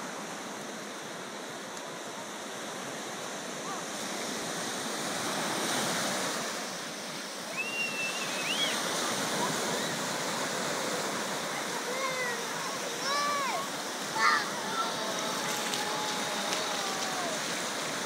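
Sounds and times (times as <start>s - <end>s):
ocean surf on beach: 0.0s - 18.0s.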